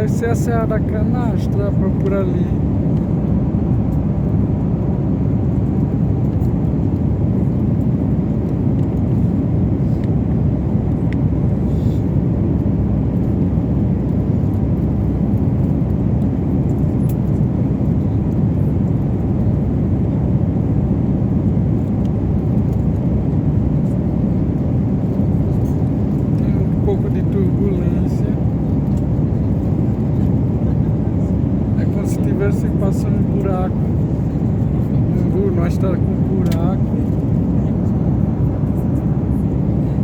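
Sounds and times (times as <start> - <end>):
jet airliner cabin noise: 0.0 - 40.0.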